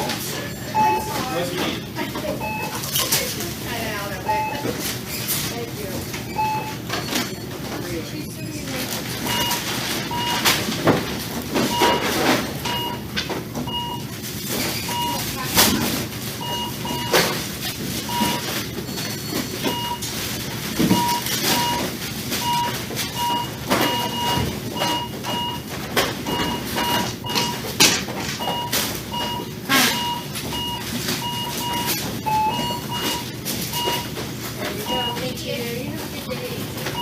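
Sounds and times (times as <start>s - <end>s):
cash register beeping: 0.0s - 37.0s
clatter of goods handled: 4.4s - 37.0s.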